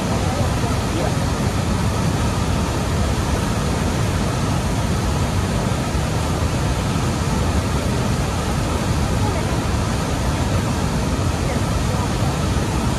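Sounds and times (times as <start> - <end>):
large waterfall rushing: 0.0 - 12.9.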